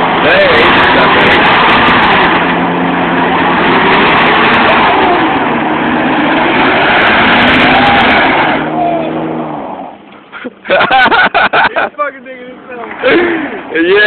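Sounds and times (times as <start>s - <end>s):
pickup engines at high revs: 0.0s - 14.0s
tires spinning and digging: 0.0s - 14.0s.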